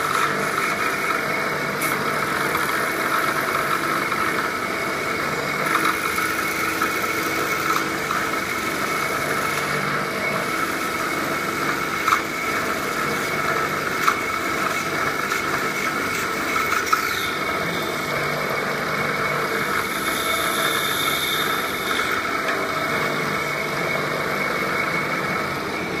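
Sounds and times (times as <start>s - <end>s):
lathe running: 0.0s - 26.0s.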